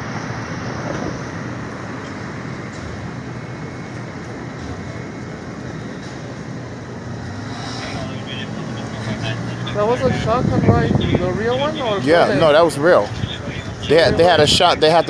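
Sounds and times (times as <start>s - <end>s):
continuous low rumble: 0.0s - 15.0s
passing traffic: 0.0s - 15.0s.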